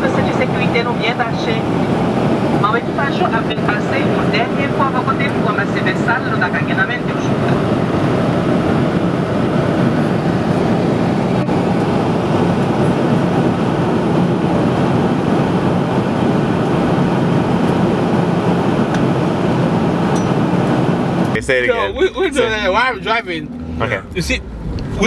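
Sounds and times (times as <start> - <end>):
airliner cabin engine hum: 0.0 - 25.0.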